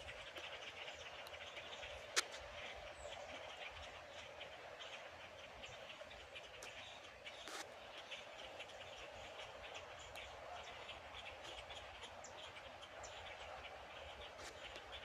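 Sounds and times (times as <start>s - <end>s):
blackbirds chirping: 0.0s - 15.0s.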